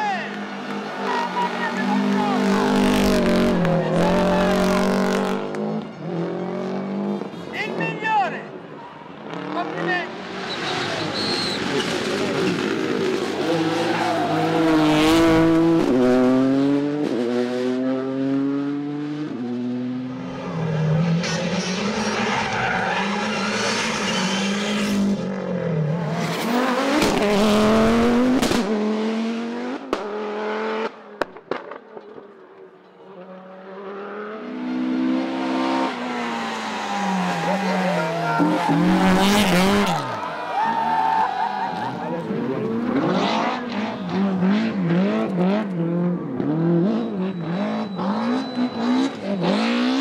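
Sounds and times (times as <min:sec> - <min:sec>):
rally car engine accelerating: 0:00.3 - 0:07.3, 0:09.2 - 0:31.8, 0:33.2 - 0:40.2, 0:41.7 - 0:50.0.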